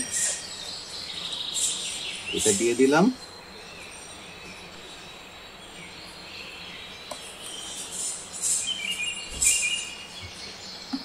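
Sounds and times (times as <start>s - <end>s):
high chirping: 0.0s - 11.0s
steady background hiss: 0.0s - 11.0s.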